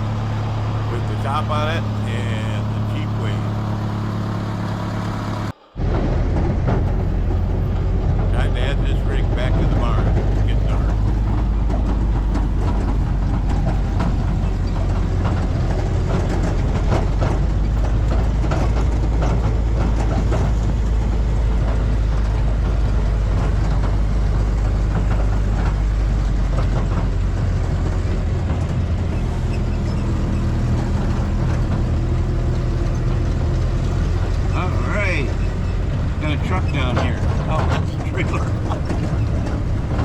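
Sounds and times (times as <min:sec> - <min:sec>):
car engine running: 0:00.0 - 0:40.0
rattles and clatter: 0:00.0 - 0:40.0.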